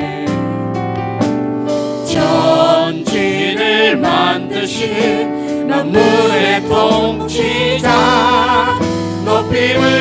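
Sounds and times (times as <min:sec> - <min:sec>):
group singing a worship song: 0:00.0 - 0:00.6, 0:02.0 - 0:10.0
drums and band accompaniment: 0:00.0 - 0:10.0.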